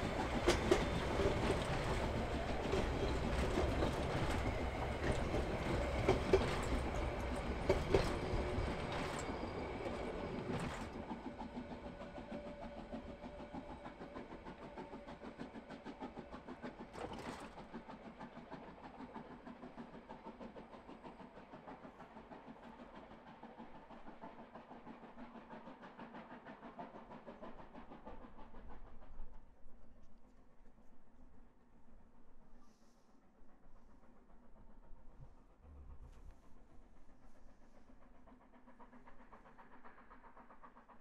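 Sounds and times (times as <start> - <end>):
steam locomotive chuffing: 0.0 - 41.0.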